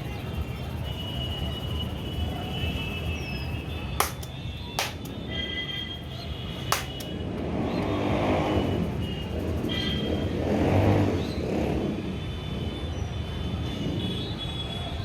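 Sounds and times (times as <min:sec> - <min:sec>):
vehicles passing close by: 0:00.0 - 0:15.0.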